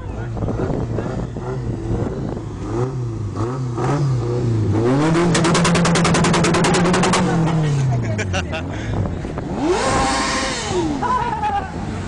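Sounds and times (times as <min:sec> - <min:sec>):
car engine revving: 0:00.0 - 0:08.4, 0:09.0 - 0:12.0
exhaust popping: 0:00.1 - 0:11.2.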